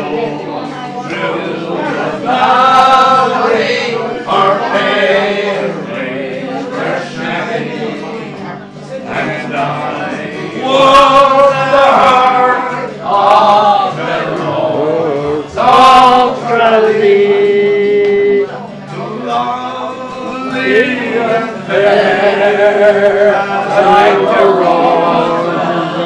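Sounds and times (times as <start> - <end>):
acoustic guitar strumming: 0.0 - 26.0
man singing: 0.0 - 26.0.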